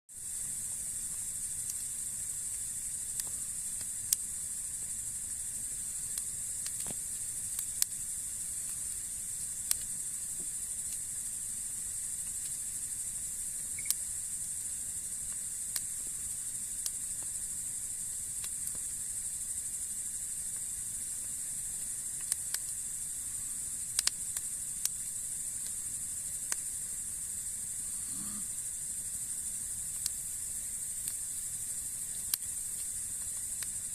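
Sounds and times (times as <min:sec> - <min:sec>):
fire hissing: 0:00.1 - 0:33.9
wood fire crackling pops: 0:00.2 - 0:23.2, 0:23.8 - 0:27.0, 0:29.8 - 0:33.9.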